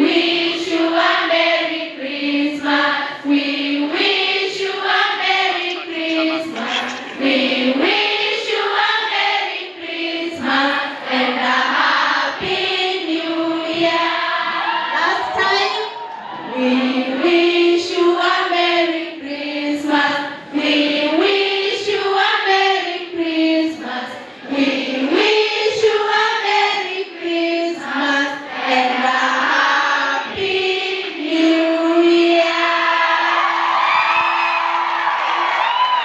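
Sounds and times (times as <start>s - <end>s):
girls choir singing: 0.0s - 35.6s.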